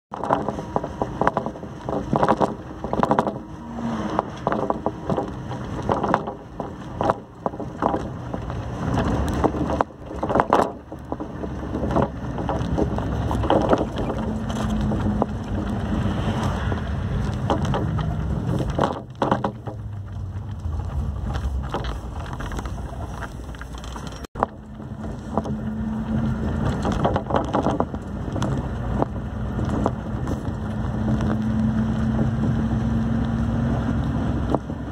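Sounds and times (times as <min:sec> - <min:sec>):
vehicle knocks and bumps: 0:00.1 - 0:34.9
vehicle road rumble: 0:00.1 - 0:34.9.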